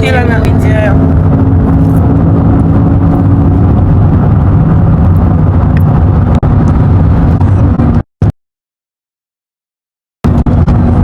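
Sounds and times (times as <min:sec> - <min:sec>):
vehicle engine rumble: 0:00.0 - 0:08.1, 0:10.2 - 0:11.0.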